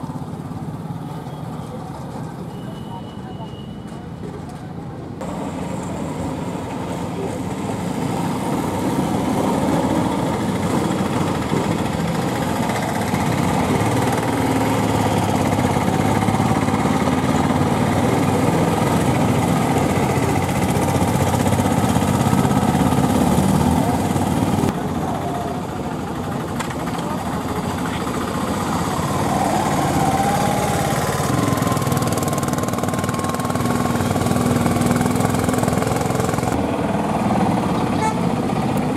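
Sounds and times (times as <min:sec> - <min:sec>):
auto rickshaw engines droning: 0:00.0 - 0:38.9
motorcycle engine: 0:05.2 - 0:38.9.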